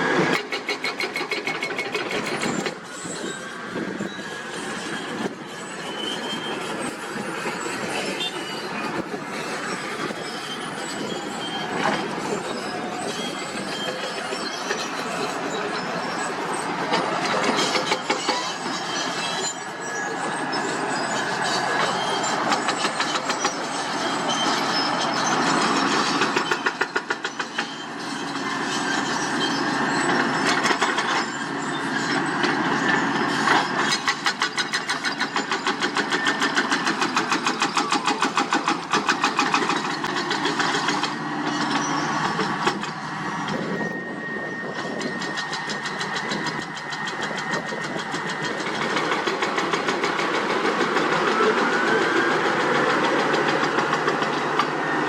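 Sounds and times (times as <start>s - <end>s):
heavy machinery diesel engine: 0.0s - 55.0s.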